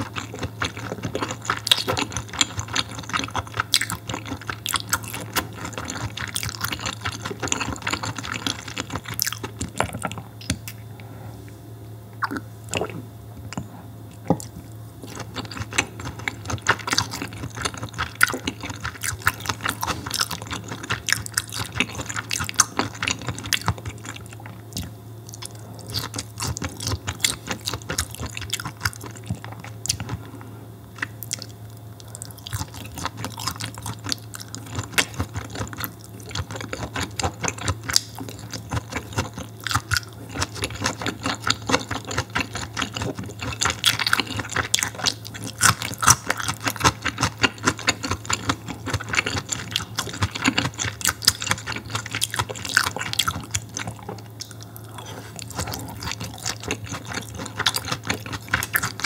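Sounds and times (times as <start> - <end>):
wet chewing and mouth sounds: 0.0 - 11.1, 12.1 - 59.0
steady low hum: 0.0 - 59.0.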